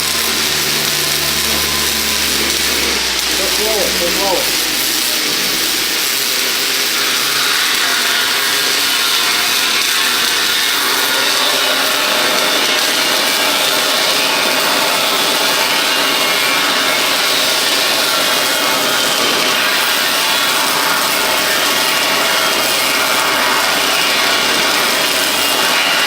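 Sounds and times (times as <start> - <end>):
welding arc crackling: 0.0 - 26.0.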